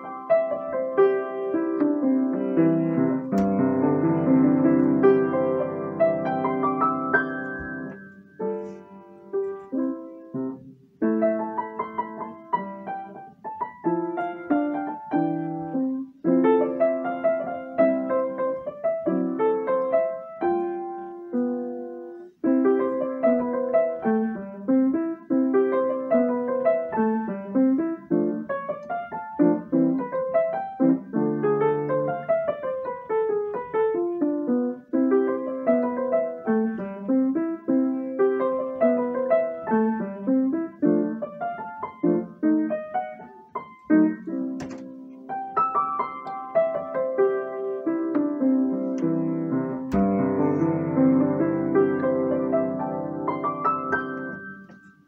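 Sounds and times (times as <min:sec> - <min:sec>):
piano solo piece: 0:00.0 - 0:55.0.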